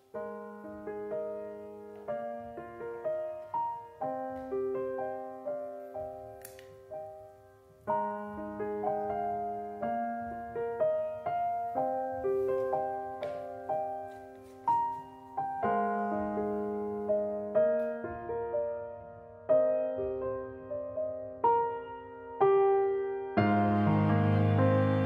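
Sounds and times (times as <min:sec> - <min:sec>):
soft solo piano music: 0:00.0 - 0:25.0.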